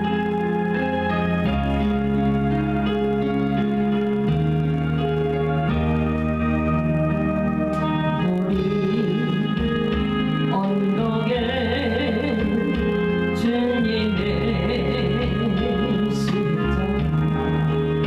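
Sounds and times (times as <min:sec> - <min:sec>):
music with organ-like chords: 0:00.0 - 0:18.0.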